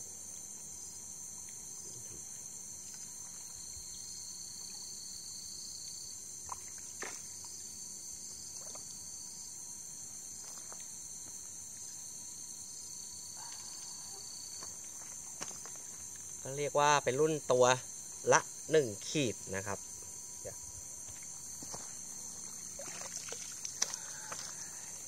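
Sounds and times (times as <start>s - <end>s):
lower insect trill: 0.0s - 25.0s
night insects trilling: 0.0s - 25.0s.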